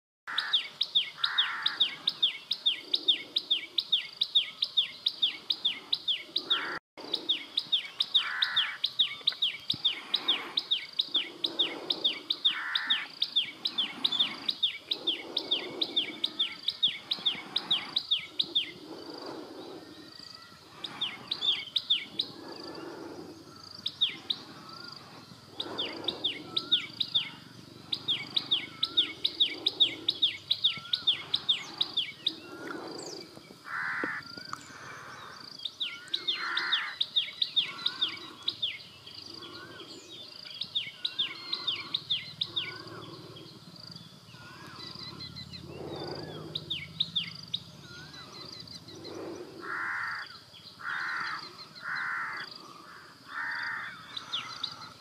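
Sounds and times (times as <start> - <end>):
songbird singing: 0.3 - 55.0.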